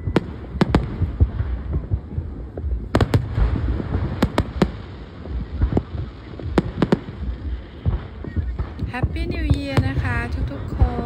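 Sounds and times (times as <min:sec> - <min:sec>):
fireworks sharp bangs: 0:00.0 - 0:11.0
low rumble of launches: 0:00.0 - 0:11.0.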